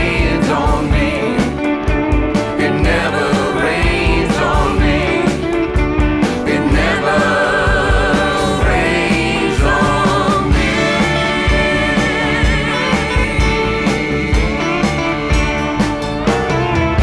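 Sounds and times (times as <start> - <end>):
rock song with singing: 0.0 - 17.0.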